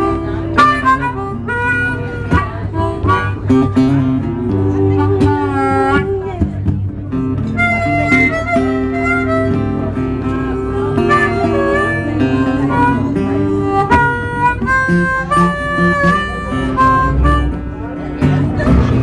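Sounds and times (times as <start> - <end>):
harmonica solo: 0.0 - 6.5, 7.2 - 18.7
strummed acoustic guitar: 0.0 - 19.0.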